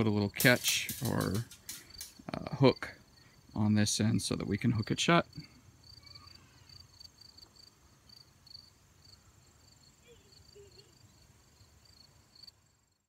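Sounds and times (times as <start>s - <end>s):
crickets chirping: 0.1s - 13.0s.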